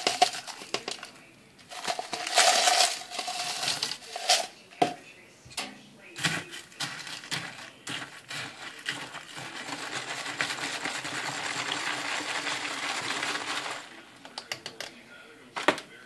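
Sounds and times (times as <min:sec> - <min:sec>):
milk frother whirring: 0:00.0 - 0:04.5, 0:06.2 - 0:14.8
ice clinking against plastic cup: 0:00.0 - 0:04.9, 0:06.2 - 0:14.9.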